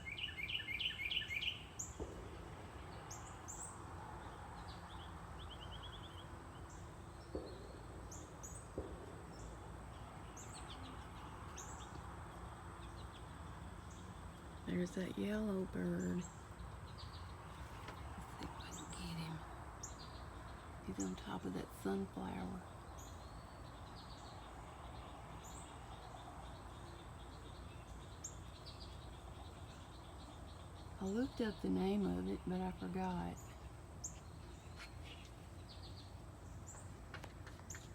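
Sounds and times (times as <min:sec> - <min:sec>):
low outdoor background rumble: 0:00.0 - 0:37.9
small birds chirping: 0:00.0 - 0:37.9.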